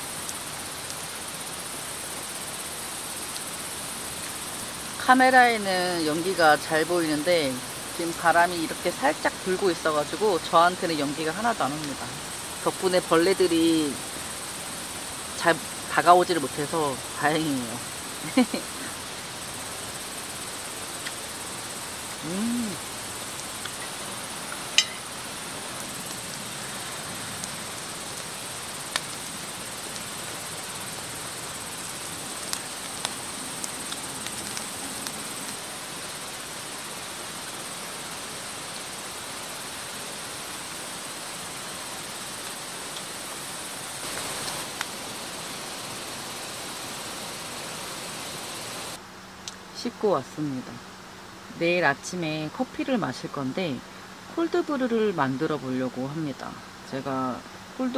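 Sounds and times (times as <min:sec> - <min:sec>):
crickets and insects chirping: 0:00.0 - 0:57.9.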